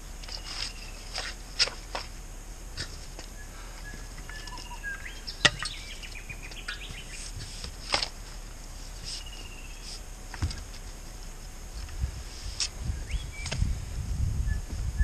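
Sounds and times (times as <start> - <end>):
birds calling: 0.0 - 11.4, 12.5 - 13.8.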